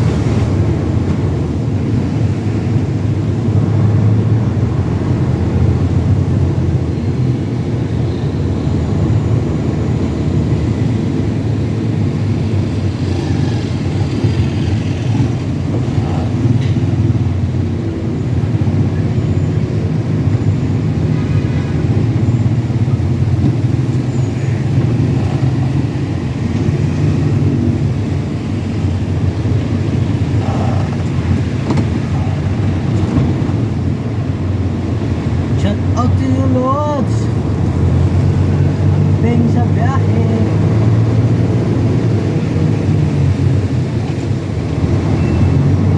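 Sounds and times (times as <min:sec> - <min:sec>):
truck engine rumbling: 0:00.0 - 0:45.9.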